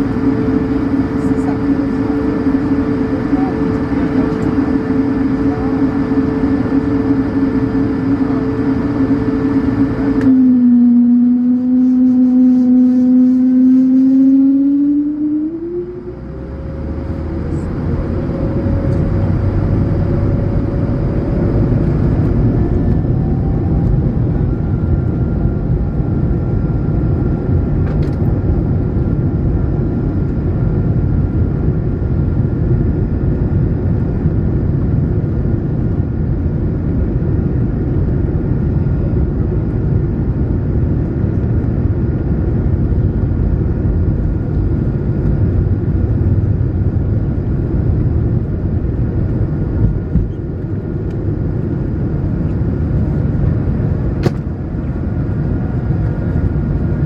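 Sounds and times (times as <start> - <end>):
heavy low rumble: 0.0 - 57.0
jet engines spooling up whine: 0.0 - 57.0.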